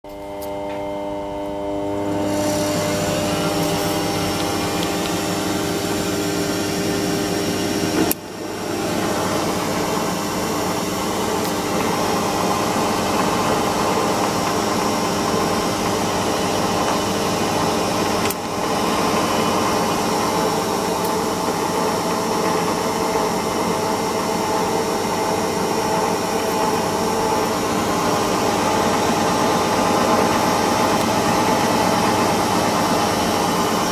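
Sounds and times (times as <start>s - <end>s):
lathe machine hum with whine: 0.1s - 33.9s.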